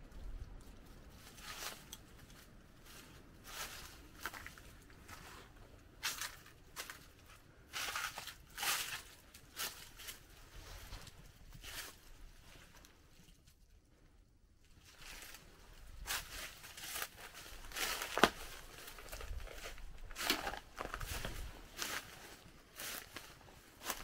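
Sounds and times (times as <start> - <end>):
footsteps crunching on dry leaves: 1.1 - 12.4, 14.9 - 24.0.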